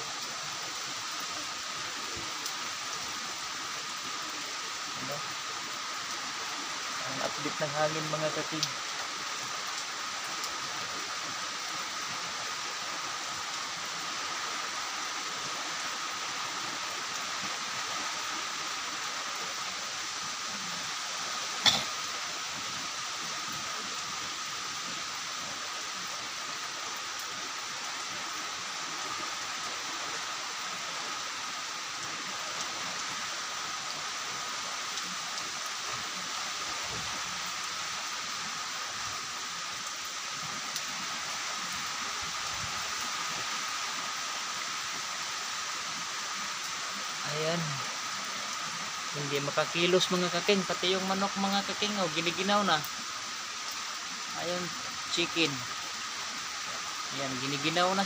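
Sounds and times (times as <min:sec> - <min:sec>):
heavy rain: 0:00.0 - 0:58.0
wind through trees: 0:00.0 - 0:58.0.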